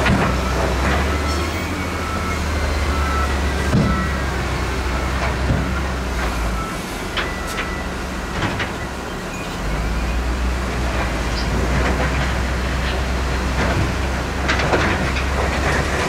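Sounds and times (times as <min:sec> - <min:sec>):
diesel engines humming: 0:00.0 - 0:16.0.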